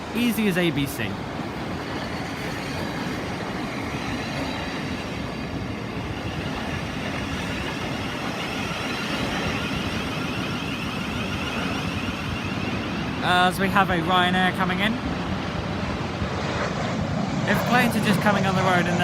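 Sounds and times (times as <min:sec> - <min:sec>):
train wheels rumbling on rail: 0:00.0 - 0:15.8
high whine: 0:00.0 - 0:19.0.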